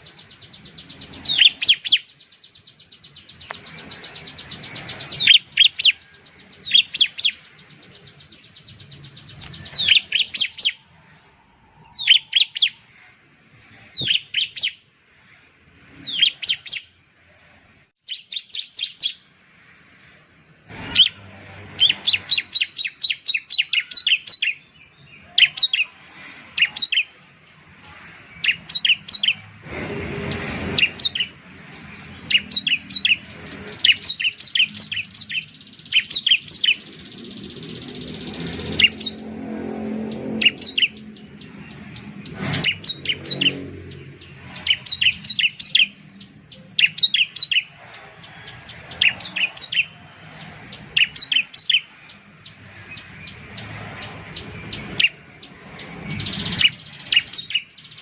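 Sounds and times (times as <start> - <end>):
bird singing sharp high notes: 0.0 - 13.1, 13.7 - 14.9, 15.6 - 17.0, 20.8 - 27.2, 28.2 - 29.5, 30.2 - 58.0.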